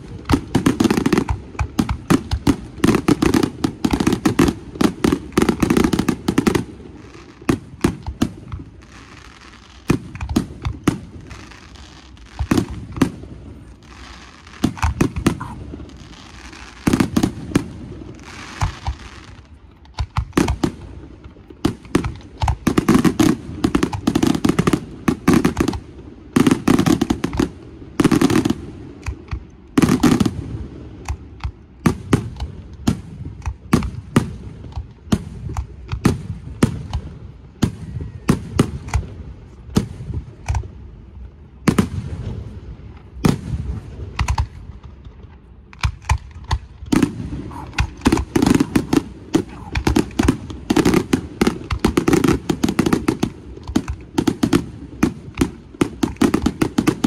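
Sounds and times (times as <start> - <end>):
fireworks bursting: 0.0 - 57.0
fireworks hissing and crackling: 0.0 - 57.0.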